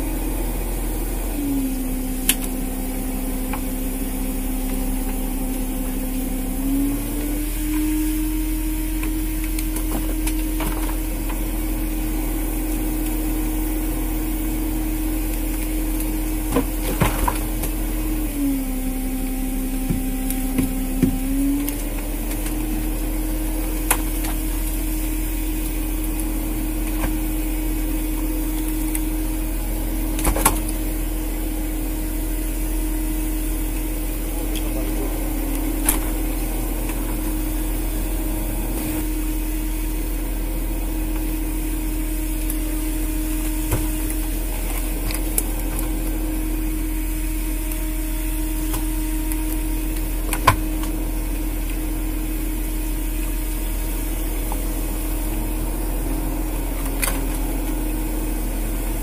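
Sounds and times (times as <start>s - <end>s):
boat engine and hydraulic machinery hum: 0.0s - 59.0s.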